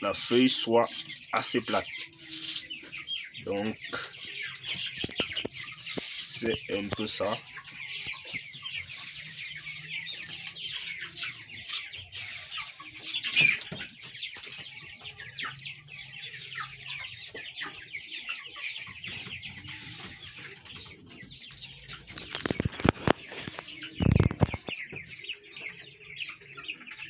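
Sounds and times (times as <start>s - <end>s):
chickens chirping and clucking: 0.0s - 27.0s.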